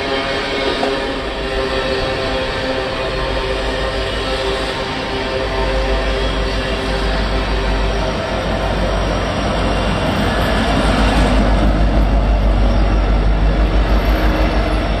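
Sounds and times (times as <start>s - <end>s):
diesel locomotives rumbling past: 0.0s - 15.0s.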